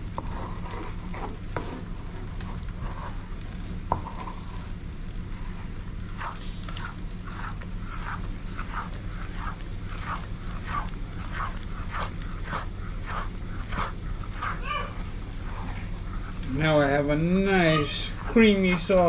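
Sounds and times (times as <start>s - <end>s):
spatula stirring thick sauce: 0.0s - 19.0s
steady low hum: 0.0s - 19.0s.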